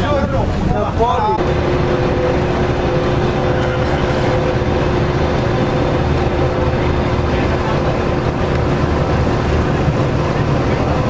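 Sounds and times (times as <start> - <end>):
ship engine hum: 0.0 - 11.0.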